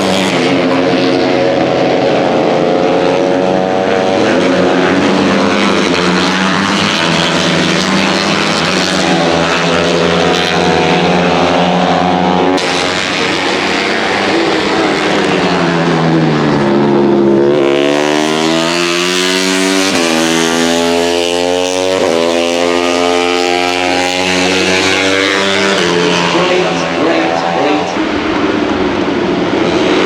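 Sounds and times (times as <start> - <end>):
motorcycle engines revving high: 0.0 - 30.0.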